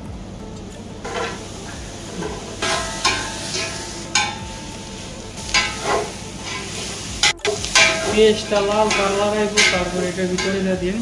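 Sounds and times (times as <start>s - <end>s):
food being stirred: 1.0s - 11.0s.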